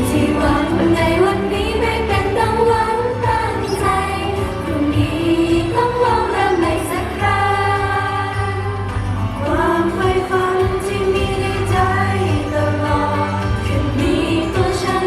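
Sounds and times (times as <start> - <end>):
female group singing pop song: 0.0 - 15.0
pop music accompaniment: 0.0 - 15.0.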